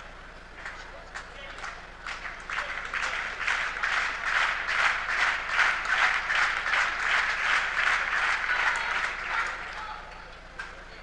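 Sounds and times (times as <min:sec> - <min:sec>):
crowd applauding rhythmically: 0:00.0 - 0:10.8.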